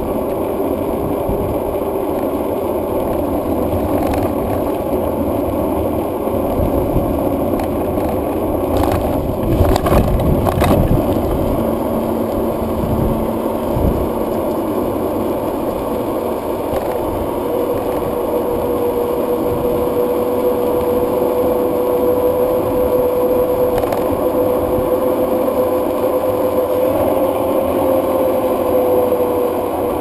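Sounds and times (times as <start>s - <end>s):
steady mid-pitched whine: 0.0s - 30.0s
tyres rushing on tarmac: 0.0s - 30.0s.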